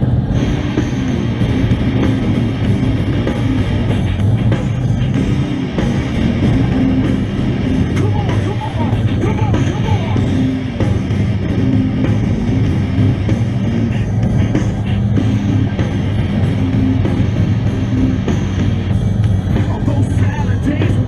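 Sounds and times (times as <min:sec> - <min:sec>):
rock music with guitar and drums: 0:00.0 - 0:21.0.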